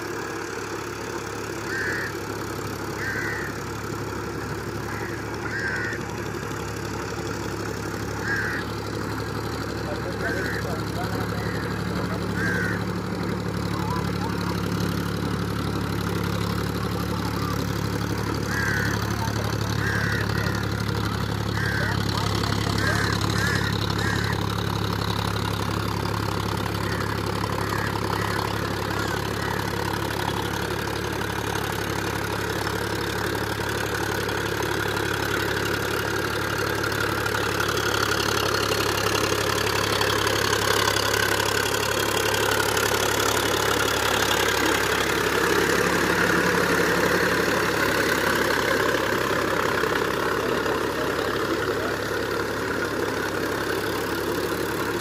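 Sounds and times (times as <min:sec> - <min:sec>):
tractor diesel engine running: 0:00.0 - 0:55.0
rotavator churning mud: 0:08.1 - 0:55.0.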